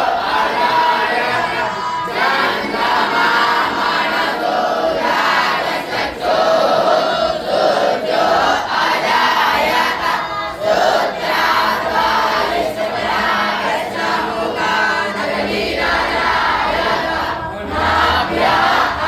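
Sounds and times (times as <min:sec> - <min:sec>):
crowd chanting in unison: 0:00.0 - 0:19.0
crowd hum: 0:00.0 - 0:19.0.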